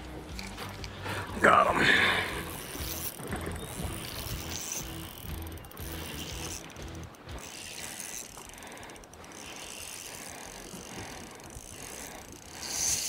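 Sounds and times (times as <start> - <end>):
fishing reel gears whirring: 0.0 - 13.0.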